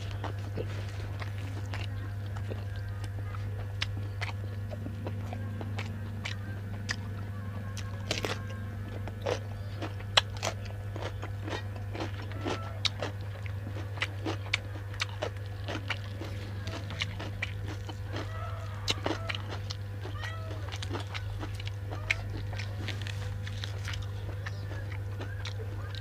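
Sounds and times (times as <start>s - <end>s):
crunching and chewing bone: 0.0s - 26.0s
steady low hum: 0.0s - 26.0s.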